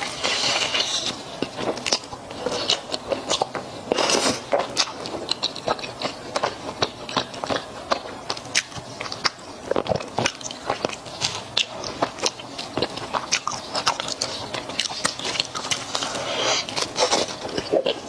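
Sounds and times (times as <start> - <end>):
crunchy biting and chewing: 0.0 - 18.0.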